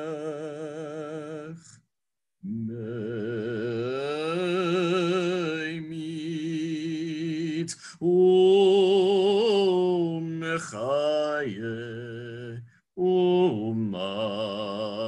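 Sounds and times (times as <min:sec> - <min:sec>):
man singing solo with vibrato: 0:00.0 - 0:01.8, 0:02.4 - 0:15.0.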